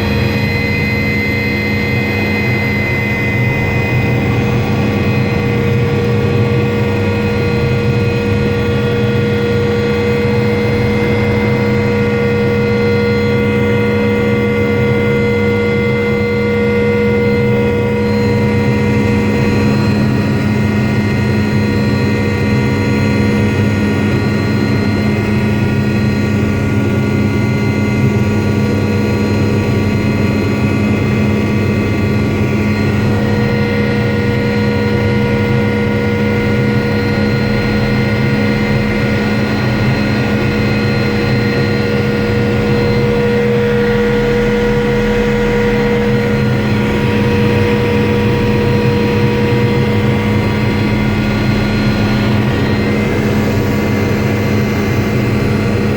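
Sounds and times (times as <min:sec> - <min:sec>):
helicopter engine and rotor: 0:00.0 - 0:55.9.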